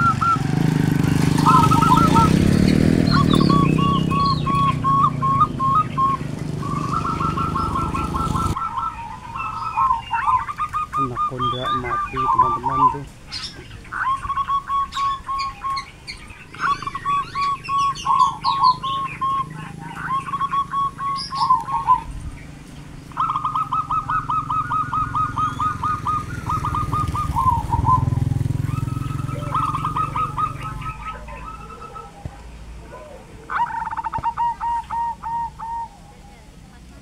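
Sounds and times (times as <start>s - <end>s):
dove cooing: 0.0s - 37.0s
small birds chirping: 0.0s - 37.0s.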